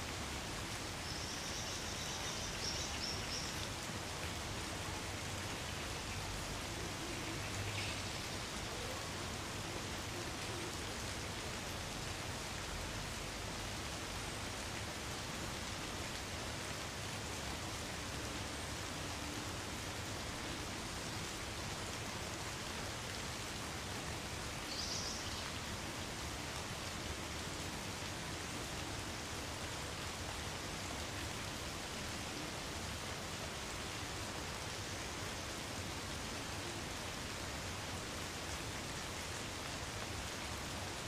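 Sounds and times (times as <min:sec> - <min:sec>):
light rain on trees: 0:00.0 - 0:41.0.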